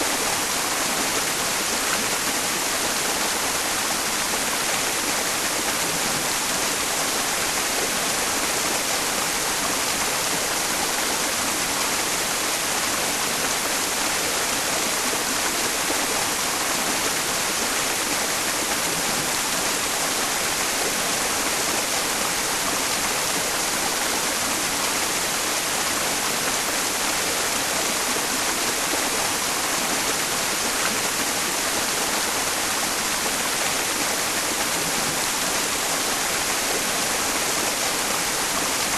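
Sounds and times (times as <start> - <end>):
steady white noise hiss: 0.0 - 38.9
stream running water: 0.0 - 38.9.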